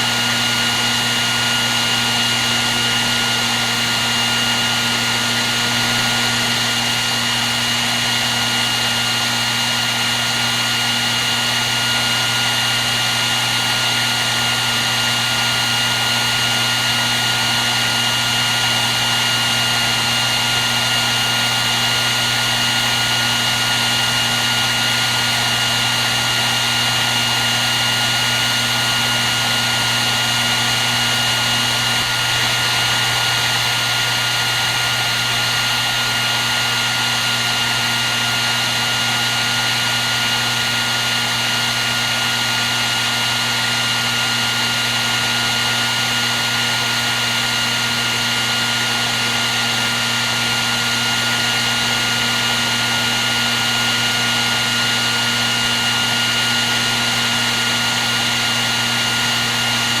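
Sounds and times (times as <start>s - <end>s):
hair dryer running: 0.0s - 60.0s.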